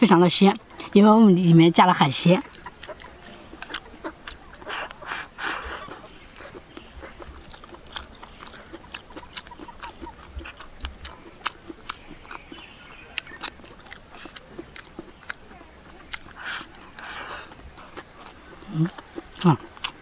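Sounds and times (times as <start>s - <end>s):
high insect drone: 0.0s - 20.0s
open-mouthed chewing: 2.2s - 20.0s.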